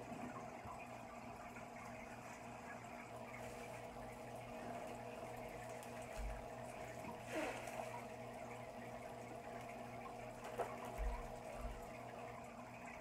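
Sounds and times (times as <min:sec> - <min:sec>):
aquarium water bubbling: 0:00.0 - 0:13.0
electric pump hum: 0:00.0 - 0:13.0.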